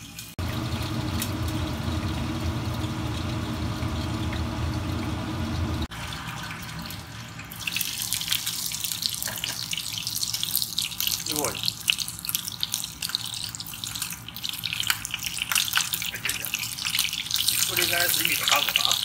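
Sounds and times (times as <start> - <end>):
oil crackling and sizzling: 0.0 - 19.0.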